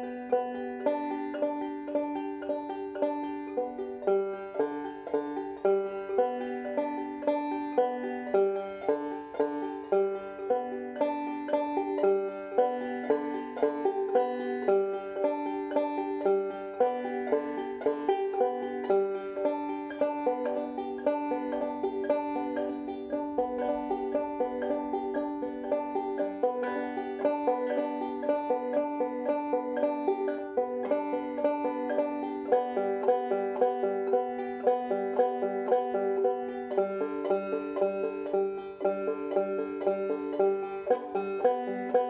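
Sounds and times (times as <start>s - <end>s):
banjo plucked and strummed: 0.0s - 42.0s.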